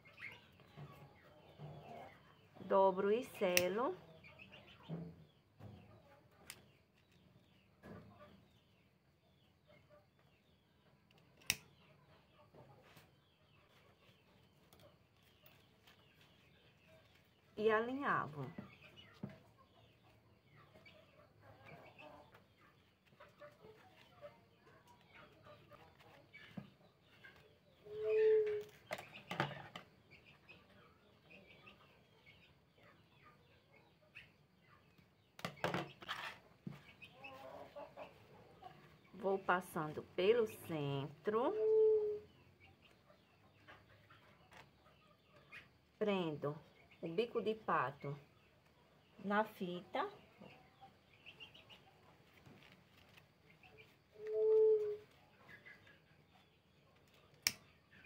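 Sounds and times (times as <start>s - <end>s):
birds clucking and chirping: 0.0s - 58.0s.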